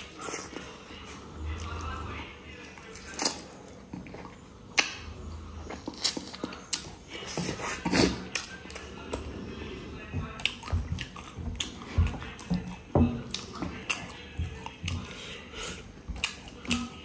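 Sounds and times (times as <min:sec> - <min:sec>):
chewing with wet smacks: 0:00.0 - 0:09.3, 0:10.0 - 0:17.0.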